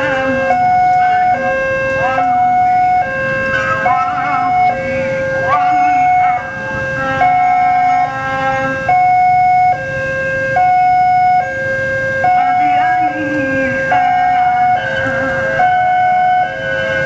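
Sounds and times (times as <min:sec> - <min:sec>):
level-crossing two-tone alarm: 0:00.0 - 0:17.0.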